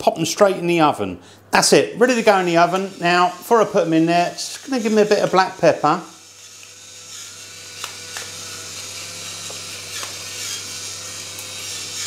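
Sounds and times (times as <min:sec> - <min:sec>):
pepper mill grinding: 0:02.2 - 0:12.0.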